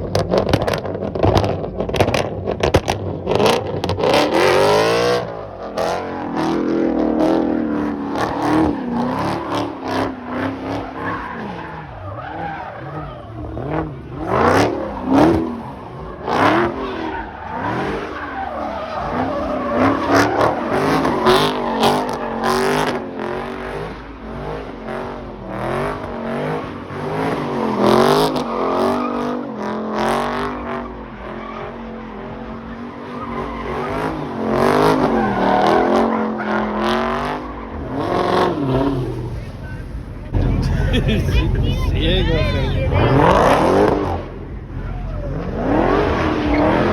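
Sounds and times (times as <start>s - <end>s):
car engines revving hard: 0.0s - 46.9s
tires squealing: 0.0s - 46.9s.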